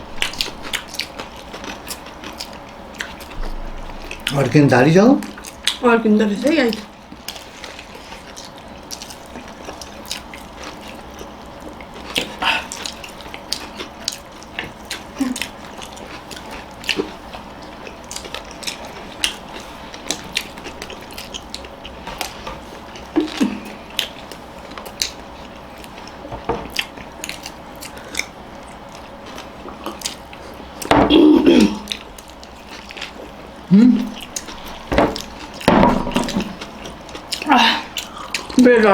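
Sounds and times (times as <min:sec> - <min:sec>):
people chewing food: 0:00.0 - 0:38.9.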